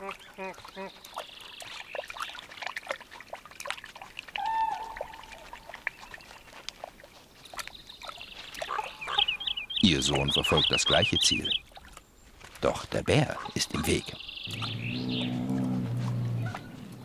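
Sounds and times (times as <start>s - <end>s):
wet clicks and drips: 0.0s - 9.5s, 10.4s - 17.0s
wolf splashing through water: 0.0s - 9.7s, 11.4s - 17.0s
wolf lapping water: 0.0s - 17.0s.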